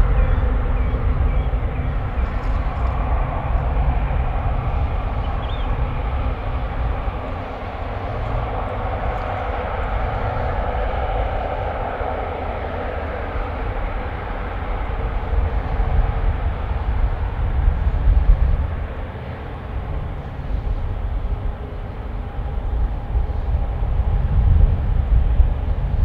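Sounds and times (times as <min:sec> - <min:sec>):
jet engine whine: 0:00.0 - 0:26.0
low rumble: 0:00.0 - 0:26.0.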